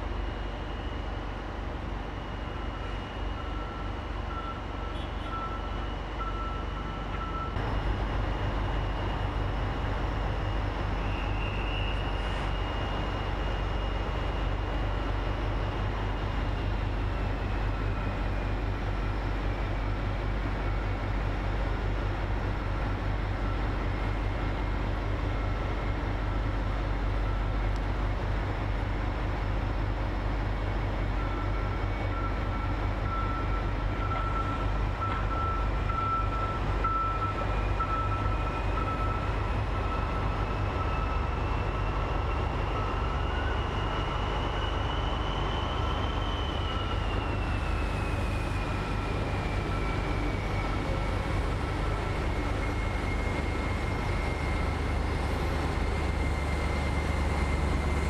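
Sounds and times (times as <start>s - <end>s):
diesel locomotive idling: 0.0s - 58.0s.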